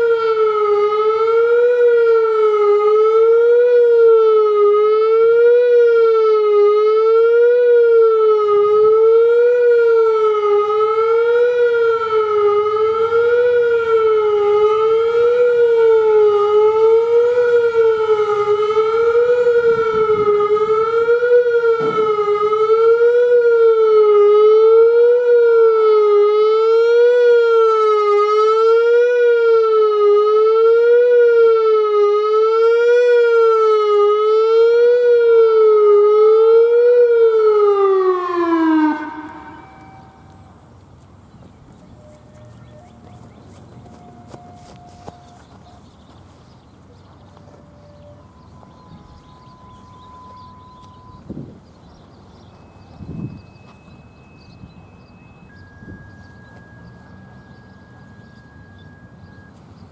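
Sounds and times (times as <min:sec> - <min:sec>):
warning siren wailing: 0:00.0 - 0:59.9.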